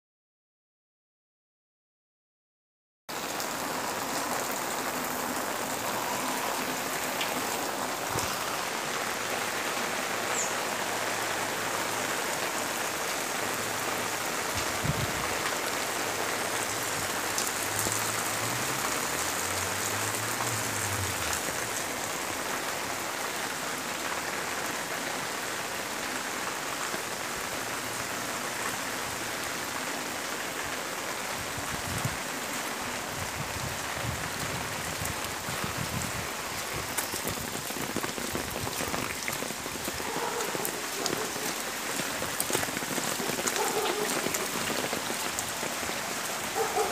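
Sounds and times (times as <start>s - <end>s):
runoff water streaming: 3.1s - 46.9s
steady rain falling: 3.1s - 46.9s.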